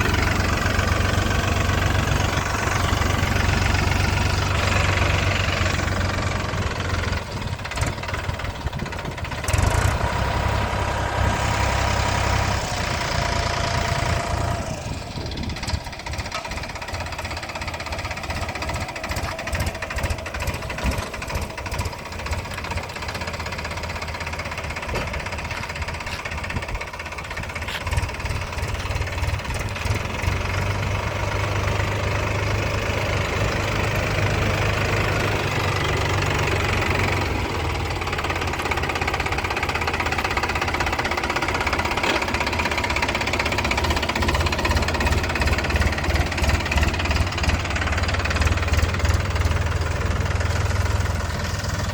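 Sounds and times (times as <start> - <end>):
diesel engine knocking: 0.0 - 51.9.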